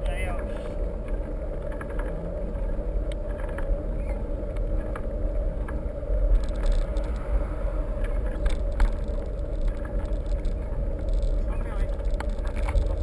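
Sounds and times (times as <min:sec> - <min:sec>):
low wind rumble on microphone: 0:00.0 - 0:13.0
small clicks and rattles: 0:00.6 - 0:07.4, 0:08.0 - 0:13.0.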